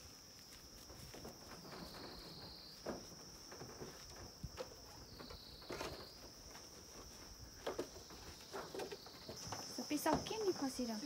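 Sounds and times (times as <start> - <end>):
high-pitched insect chorus: 0.0 - 11.0
wooden knocks and scrapes: 1.2 - 10.6.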